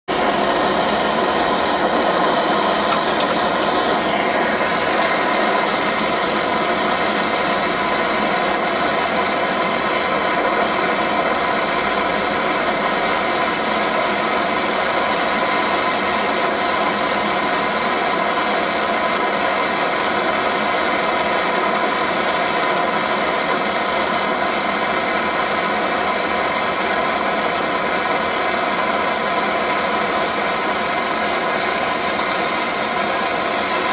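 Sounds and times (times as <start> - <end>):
gas burner flame hissing: 0.1 - 33.9.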